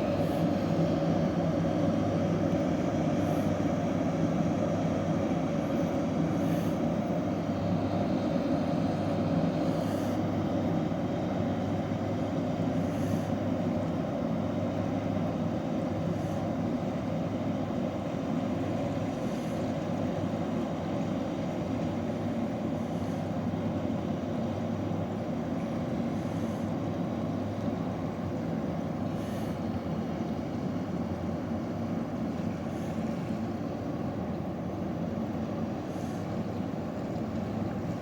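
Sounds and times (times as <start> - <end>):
ship engines droning: 0.0 - 38.0.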